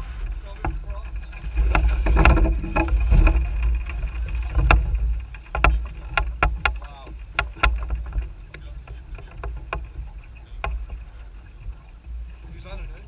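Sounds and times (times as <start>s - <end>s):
wind and water against hull: 0.0s - 13.0s
sharp knocks and clicks: 0.5s - 12.0s.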